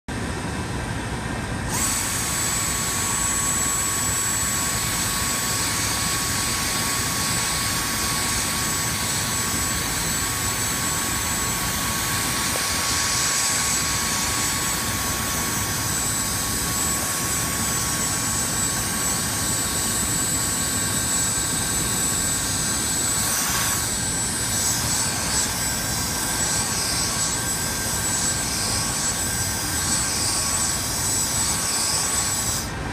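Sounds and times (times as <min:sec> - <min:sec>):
vacuum cleaner running: 0:00.9 - 0:32.9
air rushing through nozzle: 0:01.7 - 0:32.9.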